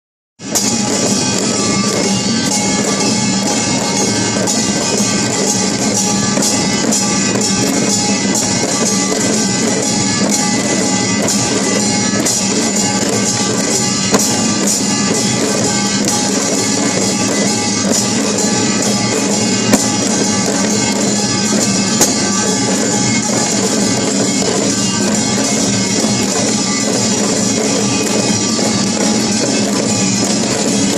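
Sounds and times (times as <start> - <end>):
drums: 0.4 - 30.9
gongs ringing: 0.4 - 30.9
percussion ensemble playing: 0.4 - 30.9.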